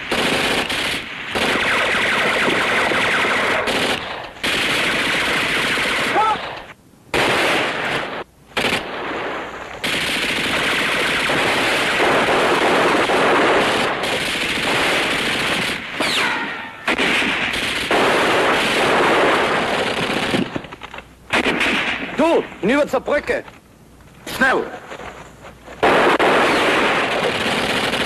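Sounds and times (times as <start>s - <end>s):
machine-gun fire: 0.0s - 6.4s, 7.1s - 20.7s, 21.3s - 22.1s, 25.8s - 28.0s.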